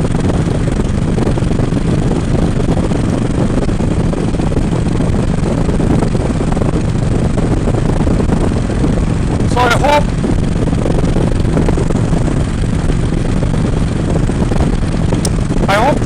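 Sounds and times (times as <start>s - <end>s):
motorcycle engine rumbling: 0.0s - 16.0s
wind noise on microphone: 0.0s - 16.0s.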